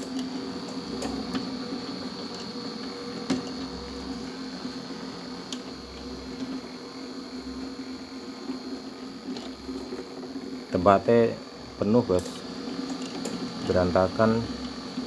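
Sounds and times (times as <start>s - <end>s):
winding machine humming: 0.0s - 15.0s.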